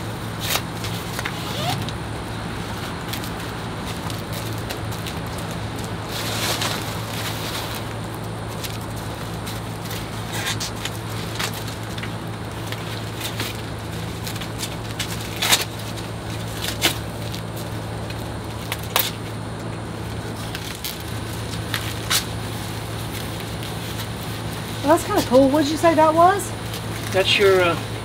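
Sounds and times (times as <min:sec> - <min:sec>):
packing foam and plastic crackling: 0:00.1 - 0:28.0.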